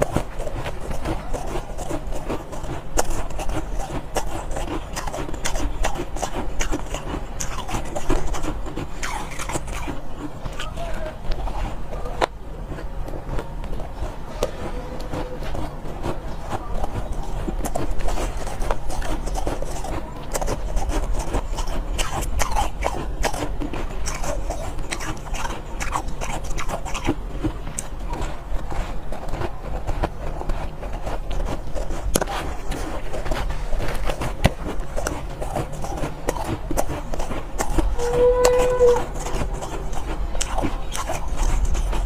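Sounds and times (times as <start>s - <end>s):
ice being chewed: 0.0s - 42.0s.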